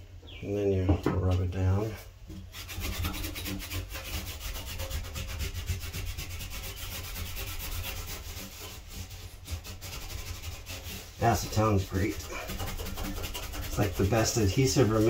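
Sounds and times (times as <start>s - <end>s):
cloth rag scrubbing metal bathtub: 2.4s - 15.0s.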